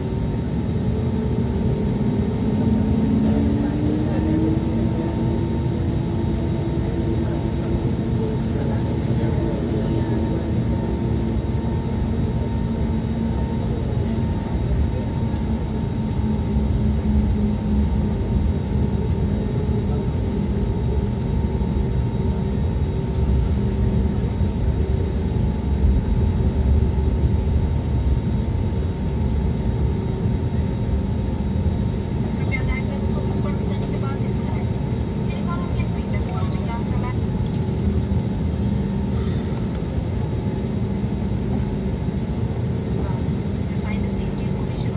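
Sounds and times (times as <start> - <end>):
jet engine drone in cabin: 0.0 - 44.9.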